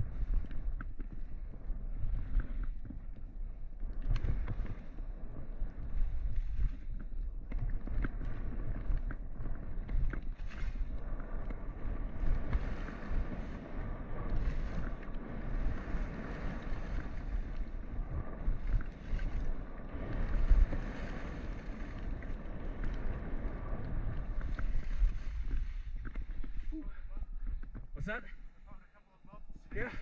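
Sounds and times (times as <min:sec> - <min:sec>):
skis sliding on snow: 0:00.0 - 0:28.3
wind buffeting microphone: 0:00.0 - 0:30.0.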